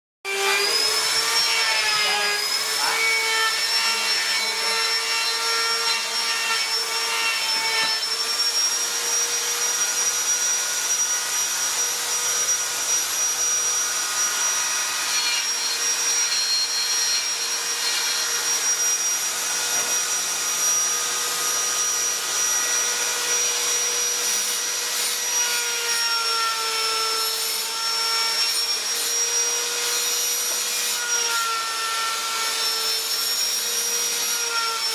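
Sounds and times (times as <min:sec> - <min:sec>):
power tool motor whining: 0:00.3 - 0:34.9.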